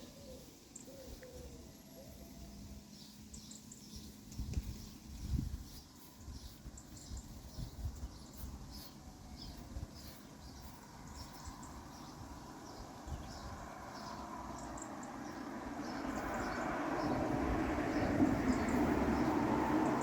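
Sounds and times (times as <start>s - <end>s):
small birds chirping: 0.0s - 20.0s
wind rumble on microphone: 4.0s - 20.0s.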